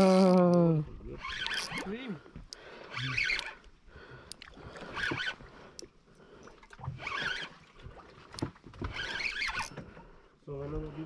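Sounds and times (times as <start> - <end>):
water sloshing against boat hull: 1.0 - 11.0.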